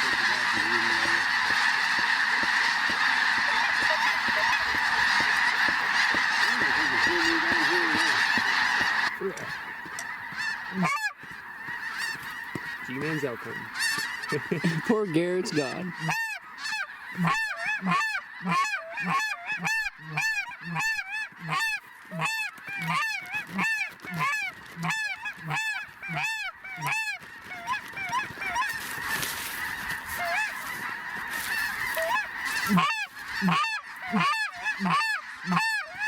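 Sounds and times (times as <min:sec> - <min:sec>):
chorus of overlapping goose calls: 0:00.0 - 0:36.0
geese honking: 0:00.0 - 0:36.0.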